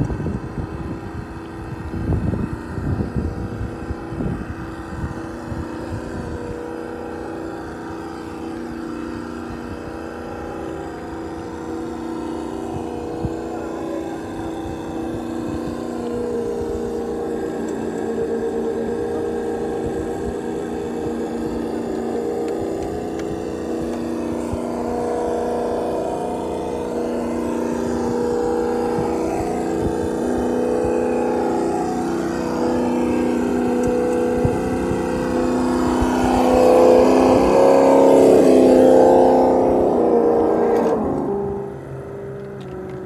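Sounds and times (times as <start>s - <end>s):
toy car electric motor whining: 0.0s - 43.0s.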